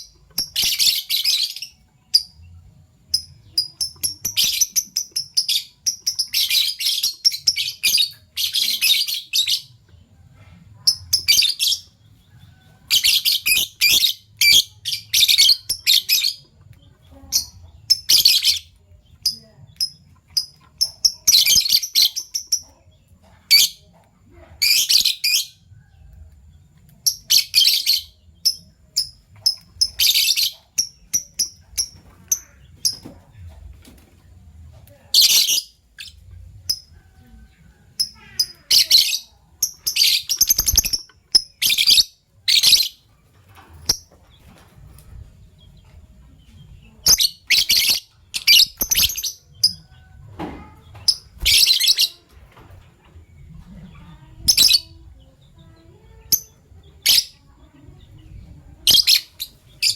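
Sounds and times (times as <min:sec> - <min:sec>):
lovebirds chattering: 0:00.0 - 0:25.8, 0:26.9 - 0:59.9.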